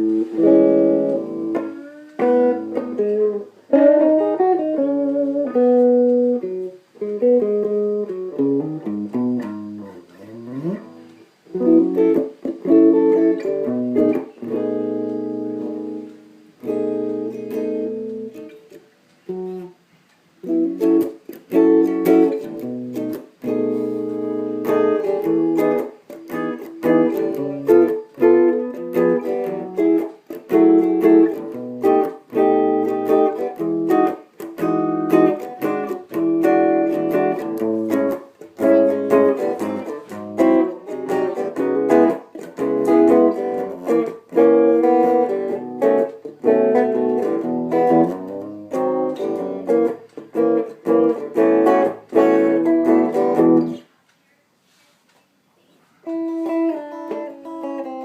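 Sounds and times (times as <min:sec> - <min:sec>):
electric guitar playing: 0:00.0 - 0:19.8, 0:20.4 - 0:53.9, 0:56.0 - 0:58.0.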